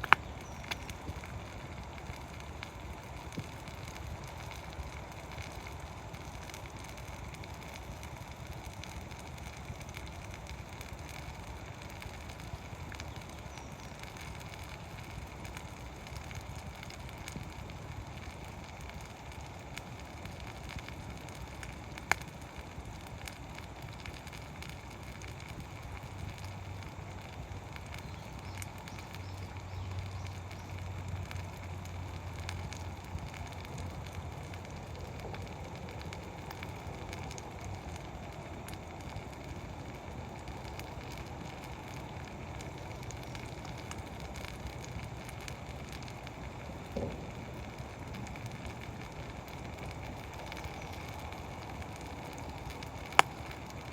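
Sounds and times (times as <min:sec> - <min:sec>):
campfire crackling: 0:00.0 - 0:53.9
fire hiss: 0:00.0 - 0:53.9
small fire pops: 0:00.0 - 0:53.9.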